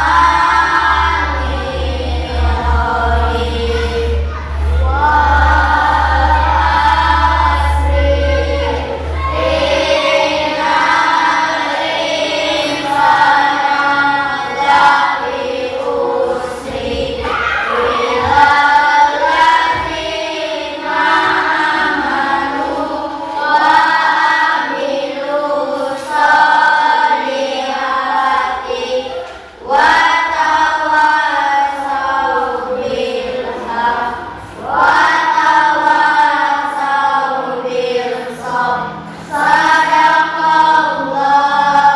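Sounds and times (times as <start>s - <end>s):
children singing in unison: 0.0s - 41.9s.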